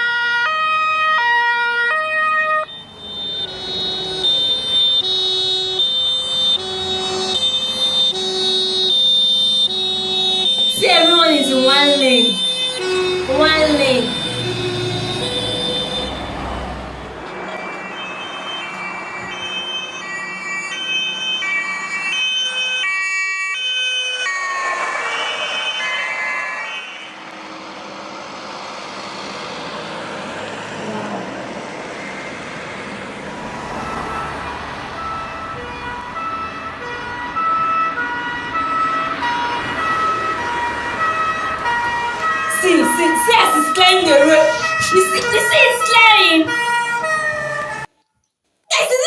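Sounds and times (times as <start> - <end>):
fire engine two-tone siren: 0.0 - 49.0.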